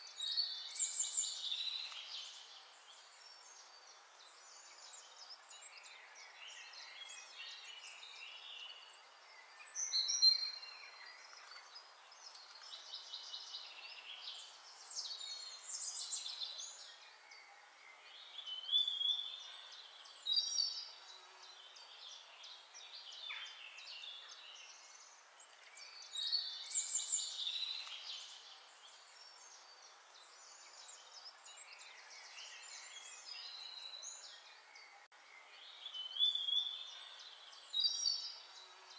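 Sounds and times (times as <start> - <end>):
faint hiss: 0.0 - 38.9
songbirds chirping and singing: 0.0 - 38.9.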